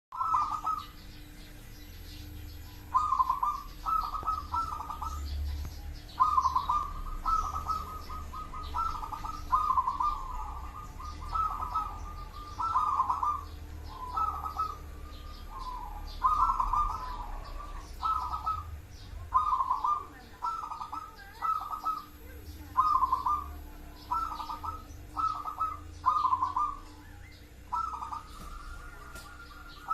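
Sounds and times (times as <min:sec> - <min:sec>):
dove cooing: 0:00.1 - 0:01.1, 0:02.1 - 0:29.9.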